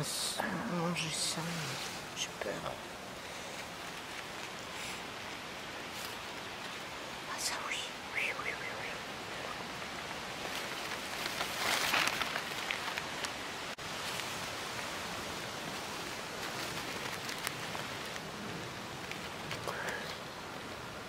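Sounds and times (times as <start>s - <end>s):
leaf litter rustling: 0.0s - 7.5s, 9.6s - 21.0s
steady outdoor hiss: 0.0s - 21.0s.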